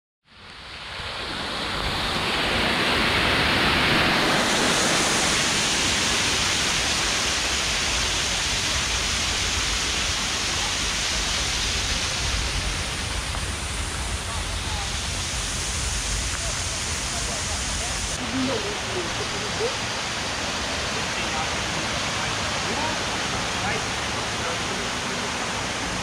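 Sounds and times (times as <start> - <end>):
waterfall rushing: 0.3 - 26.0.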